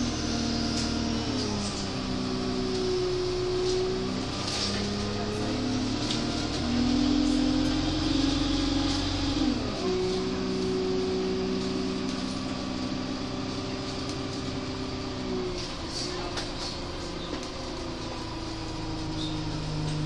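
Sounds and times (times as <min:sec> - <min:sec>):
bus engine whining: 0:00.0 - 0:20.0.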